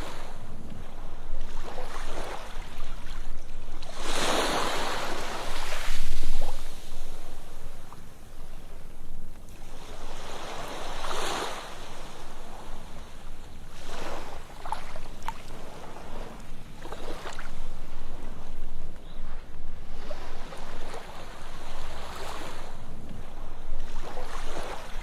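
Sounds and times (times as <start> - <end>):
ocean waves on sandy beach: 0.0 - 25.0.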